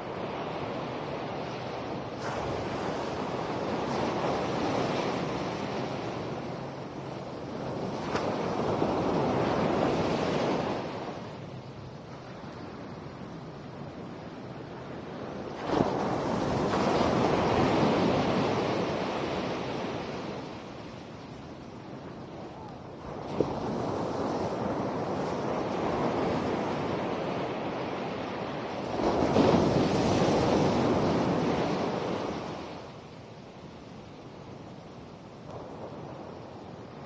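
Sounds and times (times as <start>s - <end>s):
ocean waves crashing on beach: 0.0s - 37.0s.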